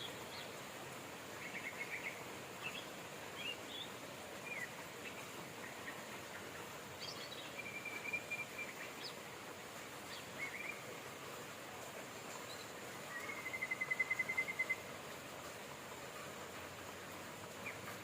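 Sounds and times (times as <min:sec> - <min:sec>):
songbirds trilling and chirping: 0:00.0 - 0:18.0
steady rain hiss: 0:00.0 - 0:18.0.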